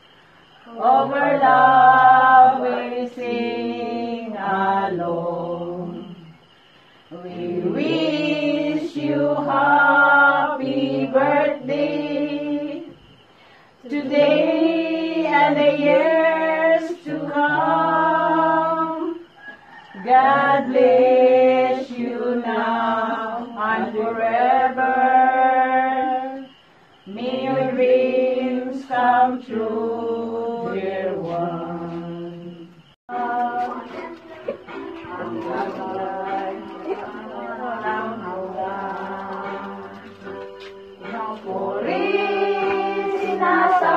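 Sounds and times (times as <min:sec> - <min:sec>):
group singing a hymn: 0:00.0 - 0:43.9.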